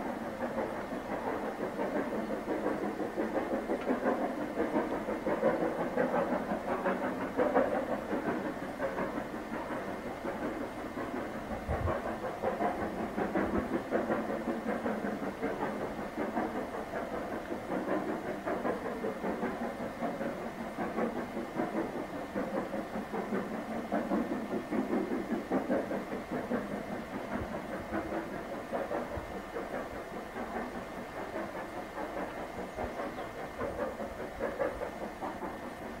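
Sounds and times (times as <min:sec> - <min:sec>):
steam hiss: 0:00.0 - 0:36.0
steam locomotive chuffing: 0:00.0 - 0:36.0.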